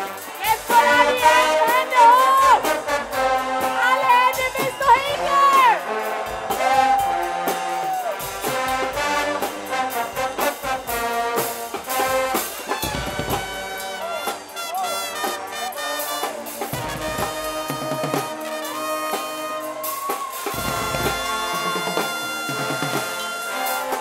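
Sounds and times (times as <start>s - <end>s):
brass band playing: 0.0s - 24.0s
pounding drum beat: 0.0s - 24.0s.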